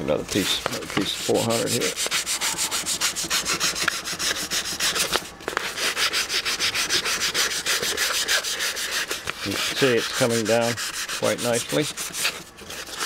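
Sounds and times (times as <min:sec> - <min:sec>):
sandpaper rubbing on wood: 0:00.4 - 0:13.0.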